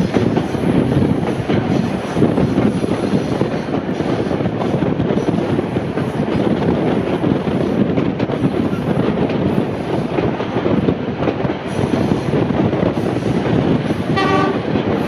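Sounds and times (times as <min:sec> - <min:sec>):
train wheels rumbling on track: 0:00.0 - 0:15.0
wind noise: 0:00.0 - 0:15.0.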